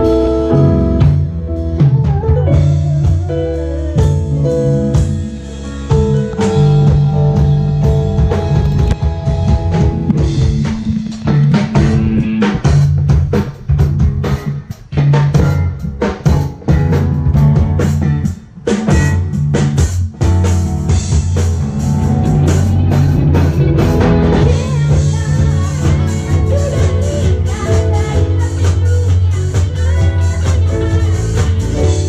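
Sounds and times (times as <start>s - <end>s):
bass line: 0.0s - 32.0s
drum kit with rimshots: 0.0s - 32.0s
guitar: 0.0s - 32.0s
keyboard: 0.0s - 32.0s.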